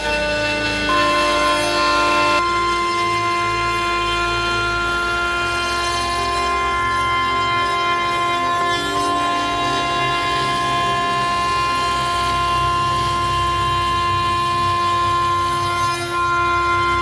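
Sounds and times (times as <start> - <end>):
cutter rasping through timber: 0.0 - 17.0
router spindle whine: 0.0 - 17.0.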